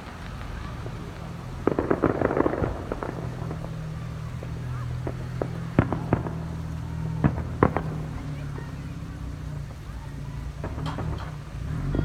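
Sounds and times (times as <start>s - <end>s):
distant fireworks bangs: 0.0s - 12.0s.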